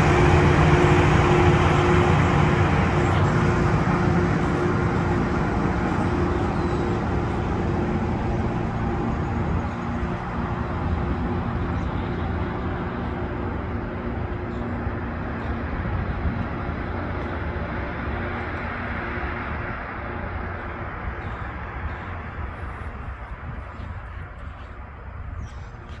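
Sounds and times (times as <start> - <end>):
diesel train engines droning: 0.0 - 26.0.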